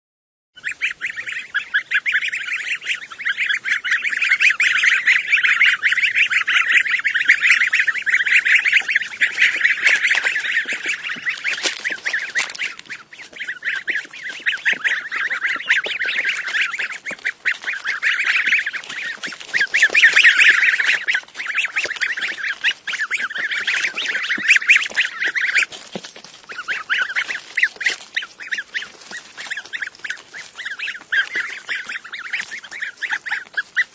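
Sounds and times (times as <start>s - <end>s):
goslings peeping: 0.6s - 33.9s.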